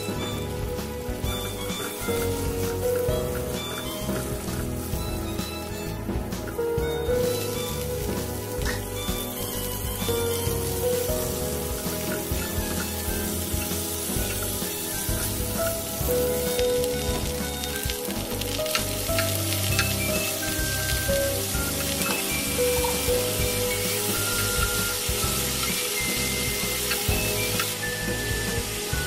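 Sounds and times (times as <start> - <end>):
background music: 0.0 - 29.0
vegetables sizzling in a wok: 0.0 - 29.0
wooden spatula scraping a pan: 1.2 - 24.9.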